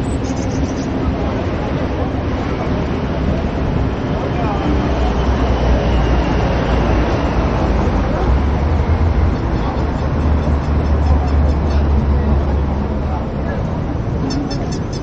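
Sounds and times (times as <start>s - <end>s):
indistinct voices: 0.0s - 15.0s
loud low city rumble: 0.0s - 15.0s.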